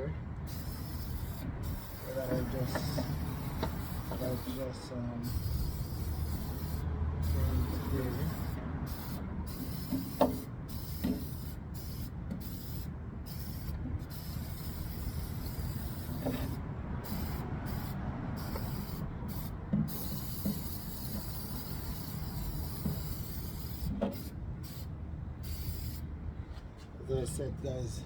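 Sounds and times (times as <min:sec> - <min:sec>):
aerosol can spraying hiss: 0:00.5 - 0:04.6, 0:05.2 - 0:26.0.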